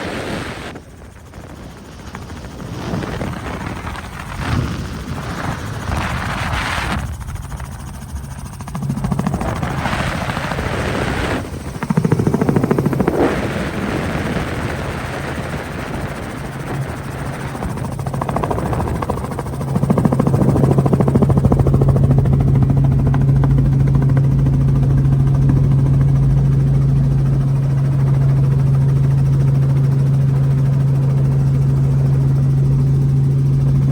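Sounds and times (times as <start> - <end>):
helicopter in flight: 0.0 - 33.9.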